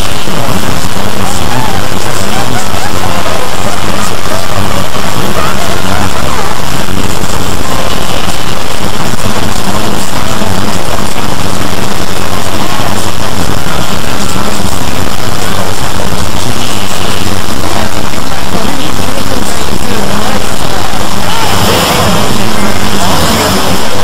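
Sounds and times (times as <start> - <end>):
distorted layered soundtrack noise: 0.0 - 24.0.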